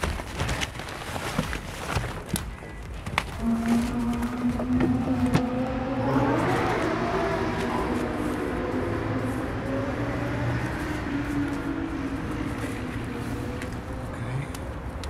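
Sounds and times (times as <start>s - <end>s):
city traffic noise: 2.5s - 15.0s.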